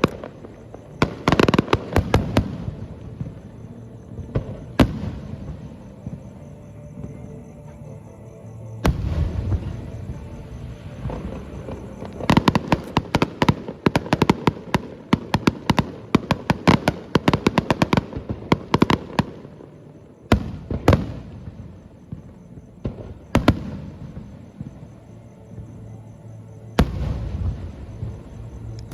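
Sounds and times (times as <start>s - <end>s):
distant fireworks bangs and crackles: 0.0s - 7.3s, 8.8s - 25.8s, 26.8s - 28.9s.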